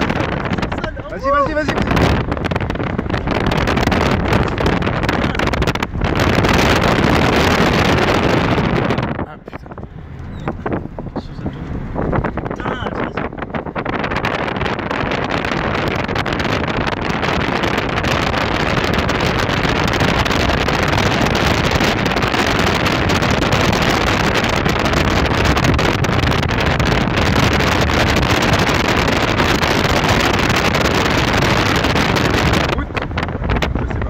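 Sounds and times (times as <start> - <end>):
road noise from fast car: 0.0 - 34.0
wind on microphone: 0.0 - 34.0.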